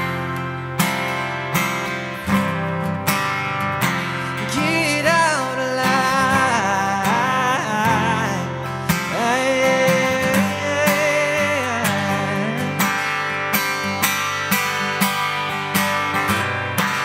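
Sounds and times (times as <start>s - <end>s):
acoustic guitars strumming: 0.0s - 17.0s.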